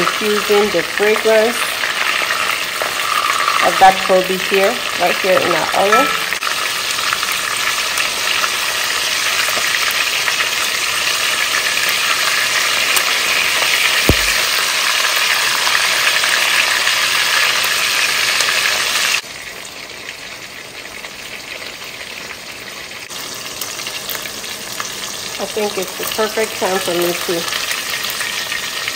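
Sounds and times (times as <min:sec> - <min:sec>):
fish frying in oil: 0:00.0 - 0:28.9.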